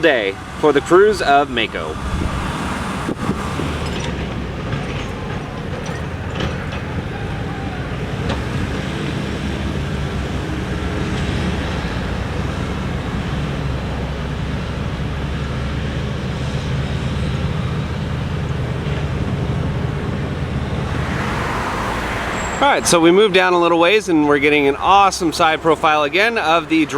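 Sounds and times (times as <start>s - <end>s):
low rumble of vehicles: 0.0s - 26.9s.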